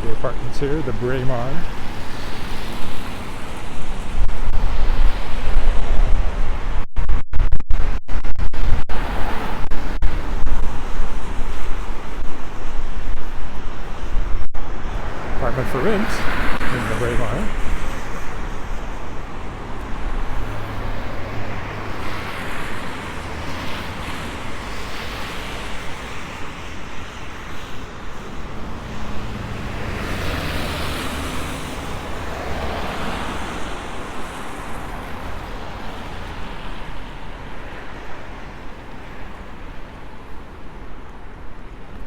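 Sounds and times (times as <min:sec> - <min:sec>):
background traffic noise: 0:00.0 - 0:06.8, 0:08.9 - 0:42.0
cars passing: 0:00.0 - 0:06.8, 0:08.9 - 0:42.0
wind rumble on microphone: 0:00.0 - 0:42.0.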